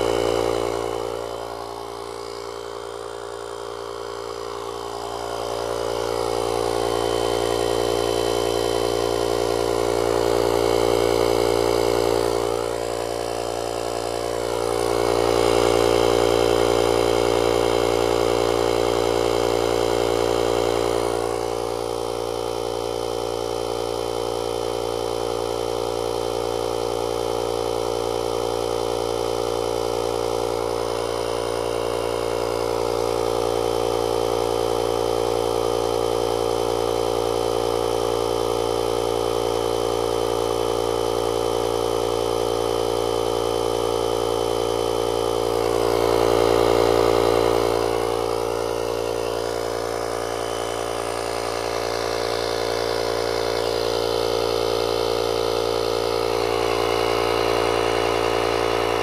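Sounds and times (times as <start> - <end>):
air compressor droning: 0.0 - 59.0.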